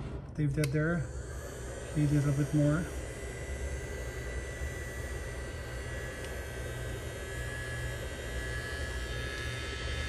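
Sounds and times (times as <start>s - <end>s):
heat gun blowing with low hum: 0.0s - 10.0s.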